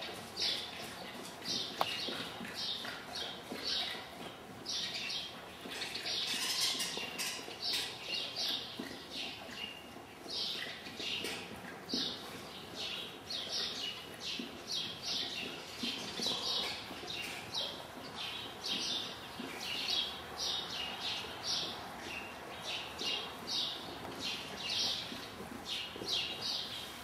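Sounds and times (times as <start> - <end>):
small birds chirping: 0.4 - 27.0.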